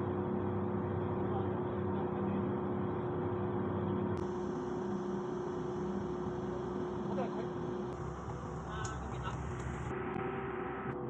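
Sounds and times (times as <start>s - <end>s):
machinery drone: 0.0s - 11.0s
steady hum tones: 0.0s - 11.0s.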